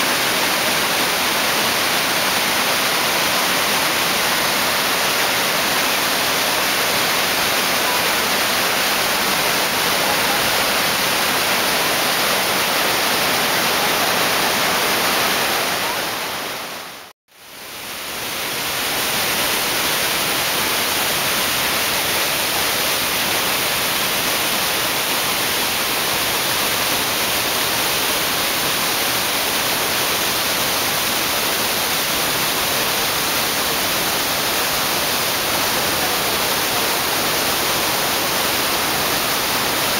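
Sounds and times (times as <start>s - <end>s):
whitewater rushing over falls: 0.0s - 39.9s.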